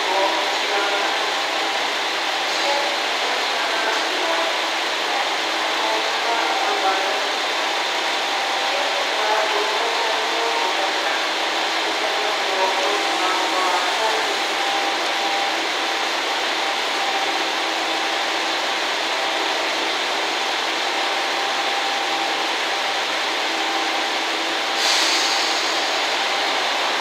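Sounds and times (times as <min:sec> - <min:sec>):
diesel railcar engine hiss: 0:00.0 - 0:27.0.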